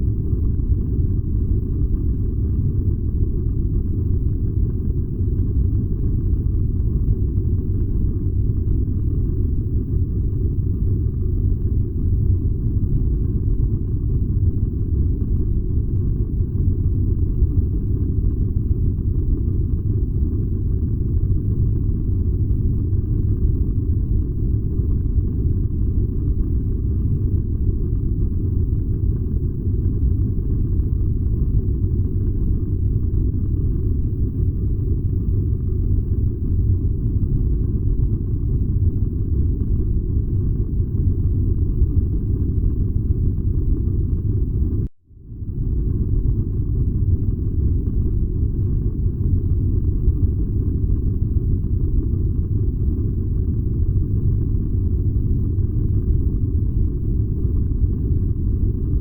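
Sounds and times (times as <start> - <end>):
furnace low rumble: 0.0 - 59.0.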